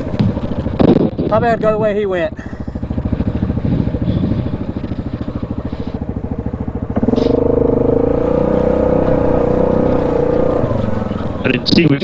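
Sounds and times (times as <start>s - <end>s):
atv engine: 0.0s - 12.0s.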